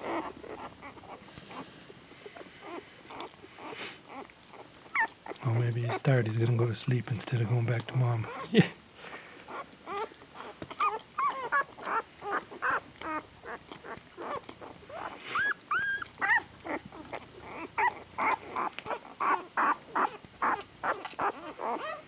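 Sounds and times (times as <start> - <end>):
puppies squealing and whimpering: 0.0 - 8.6, 9.4 - 22.0.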